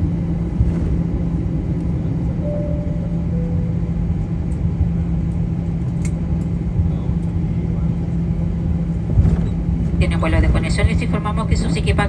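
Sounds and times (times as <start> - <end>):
aircraft engines and rolling gear rumble: 0.0 - 12.0.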